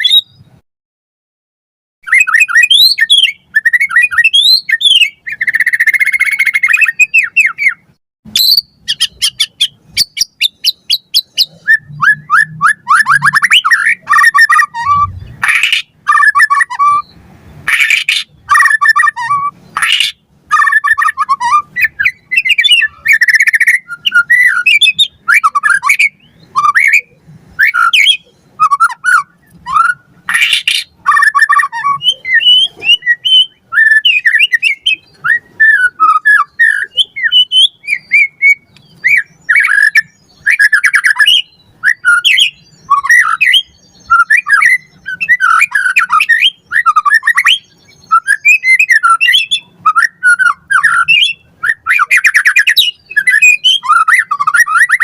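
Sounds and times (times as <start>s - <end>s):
bird singing whistled phrases: 0.0s - 0.5s, 2.0s - 55.0s.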